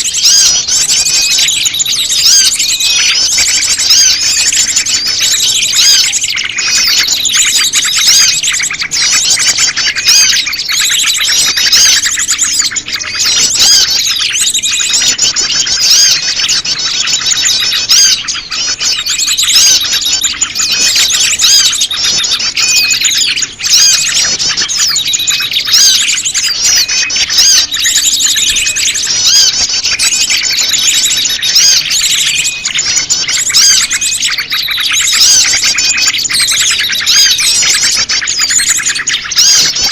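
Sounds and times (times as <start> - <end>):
small birds chirping and trilling: 0.0 - 39.9
songbird calls: 0.0 - 39.9.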